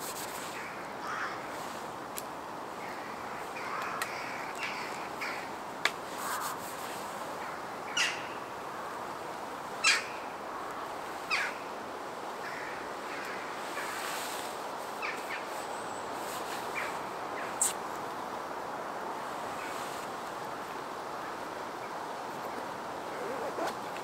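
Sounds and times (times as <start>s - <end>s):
woodland hiss: 0.0s - 24.0s.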